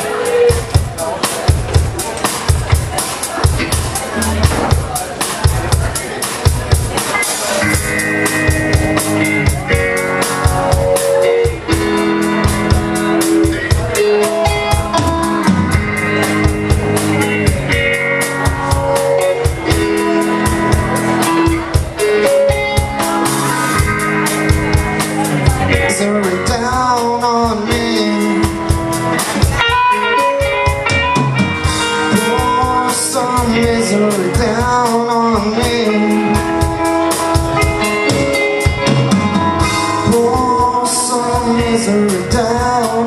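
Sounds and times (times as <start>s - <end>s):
drum kit beat: 0.0s - 43.0s
held electric guitar notes: 0.0s - 43.0s.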